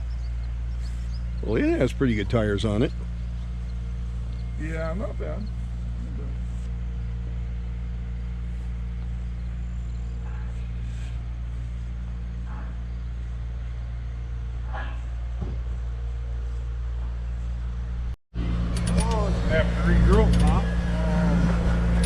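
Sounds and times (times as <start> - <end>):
large engine idling: 0.0 - 22.0.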